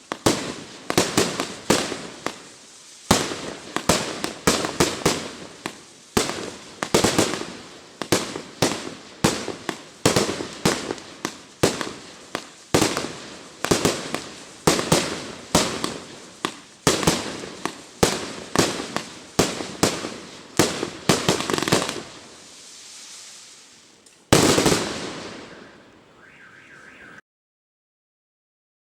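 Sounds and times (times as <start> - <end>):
fireworks cake firing: 0.0 - 27.2.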